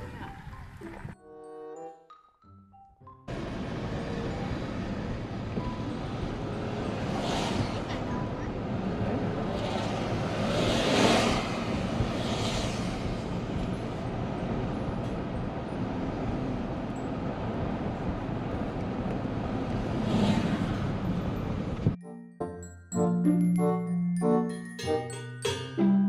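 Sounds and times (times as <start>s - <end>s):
road traffic noise: 0.0s - 1.8s, 3.3s - 26.0s.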